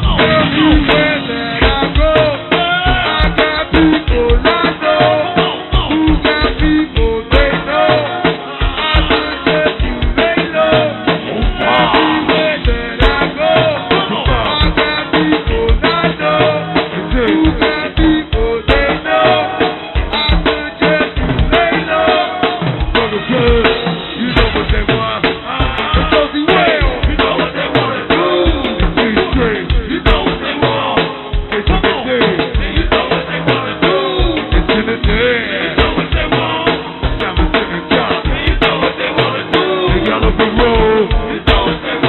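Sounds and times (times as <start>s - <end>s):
drum kit beat: 0.0s - 42.0s
live band playing: 0.0s - 42.0s.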